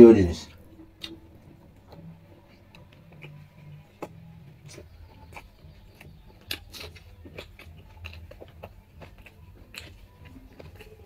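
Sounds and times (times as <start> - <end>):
fingers mixing rice on plate: 1.0 - 11.0
wet mouth smacks: 1.0 - 11.0.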